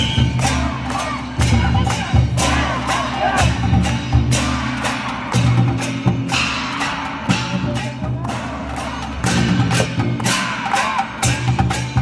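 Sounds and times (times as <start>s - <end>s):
sharp percussion strikes: 0.0s - 12.0s.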